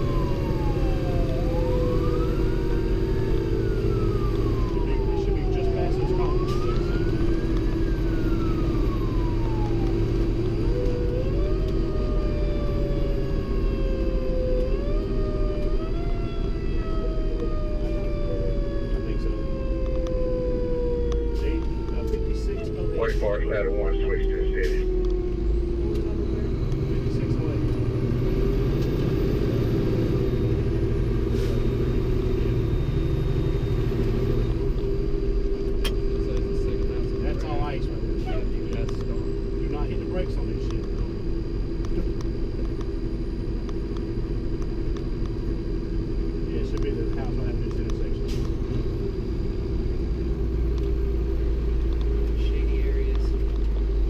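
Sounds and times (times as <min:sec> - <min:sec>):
engine drone: 0:00.0 - 0:54.0
fire engine siren wailing: 0:00.0 - 0:54.0
road noise: 0:00.0 - 0:54.0.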